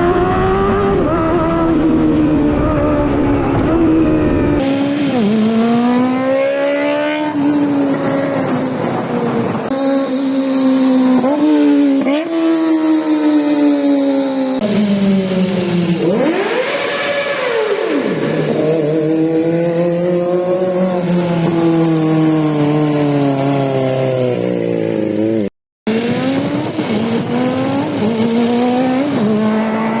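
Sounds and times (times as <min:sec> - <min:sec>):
motorcycle engine revving high: 0:00.0 - 0:30.0.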